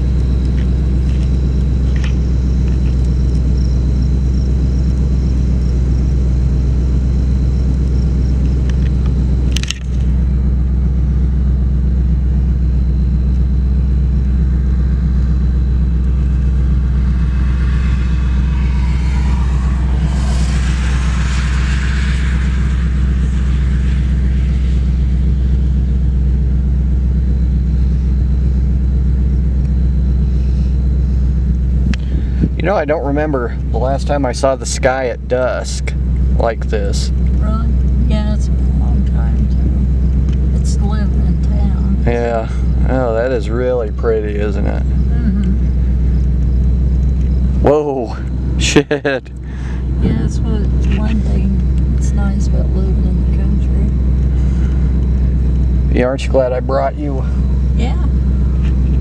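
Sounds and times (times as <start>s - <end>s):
rush of noise: 0.0s - 59.0s
vehicle engine idling: 0.0s - 59.0s.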